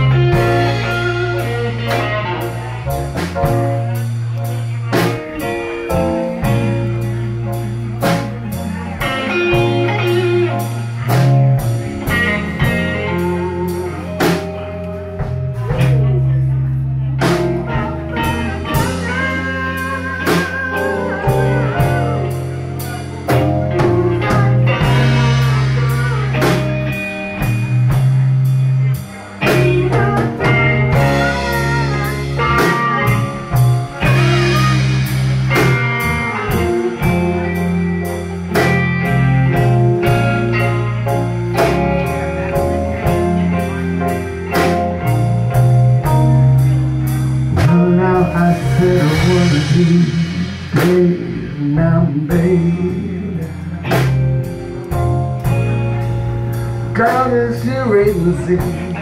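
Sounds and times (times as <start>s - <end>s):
bass: 0.0s - 59.0s
drum kit: 0.0s - 59.0s
electric guitar lead: 0.0s - 59.0s
keyboard: 0.0s - 59.0s.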